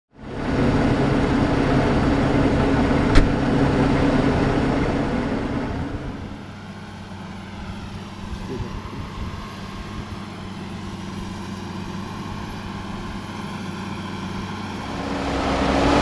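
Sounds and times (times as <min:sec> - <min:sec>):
tractor diesel engine running: 0:00.1 - 0:16.0.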